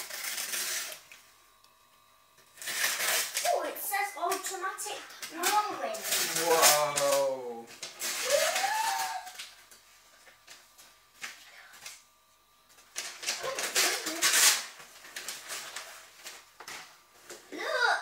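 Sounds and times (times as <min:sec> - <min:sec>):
wrapping paper rustling and tearing: 0:00.0 - 0:01.2, 0:02.6 - 0:11.9, 0:12.8 - 0:17.4.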